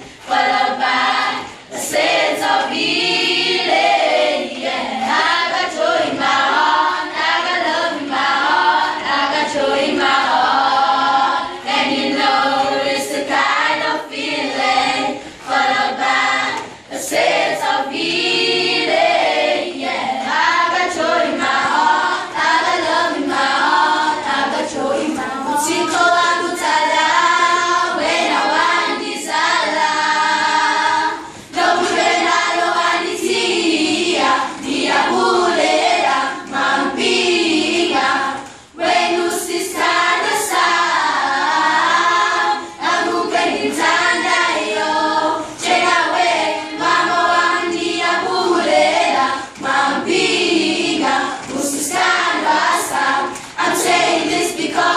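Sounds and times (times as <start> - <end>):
children's choir singing: 0.0 - 54.9.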